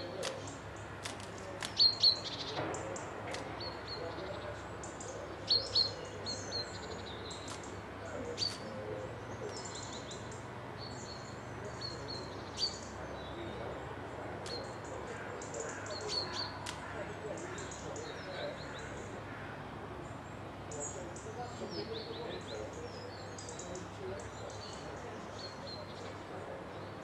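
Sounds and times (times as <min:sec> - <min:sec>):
songbirds chirping and whistling: 0:00.0 - 0:27.0.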